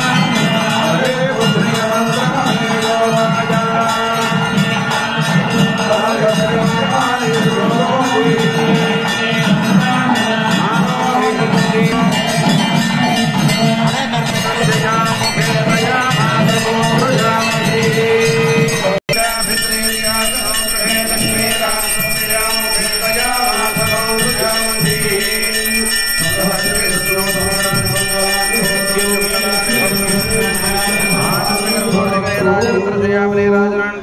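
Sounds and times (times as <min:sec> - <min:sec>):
temple bells ringing: 0:00.0 - 0:33.5
devotional music: 0:00.0 - 0:34.0.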